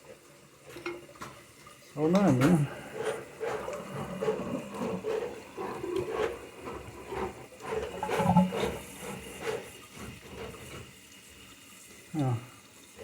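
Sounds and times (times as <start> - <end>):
water running: 0.0 - 13.0
water sloshing in toilet tank: 0.0 - 13.0.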